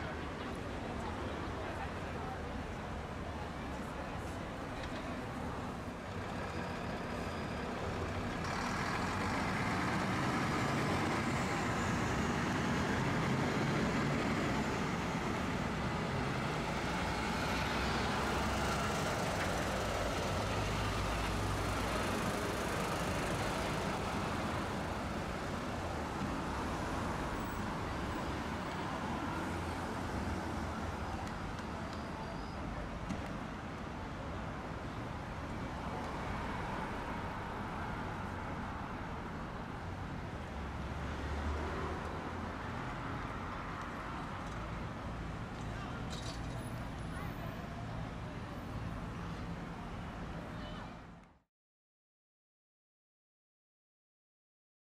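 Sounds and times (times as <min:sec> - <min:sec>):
street traffic: 0:00.0 - 0:51.4.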